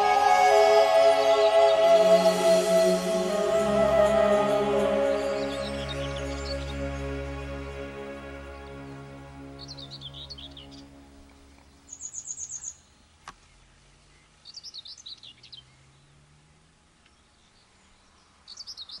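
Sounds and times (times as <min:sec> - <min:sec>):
faint steady background noise: 0:00.0 - 0:19.0
small songbirds singing: 0:00.2 - 0:07.5, 0:09.6 - 0:16.2, 0:17.1 - 0:19.0.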